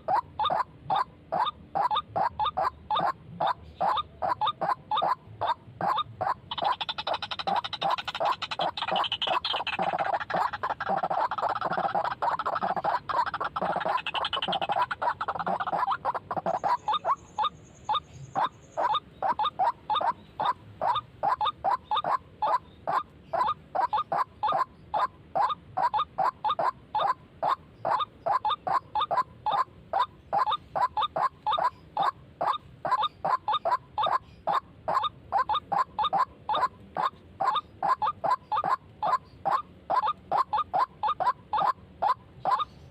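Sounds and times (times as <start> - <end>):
waterhen calls: 0.0 - 42.9.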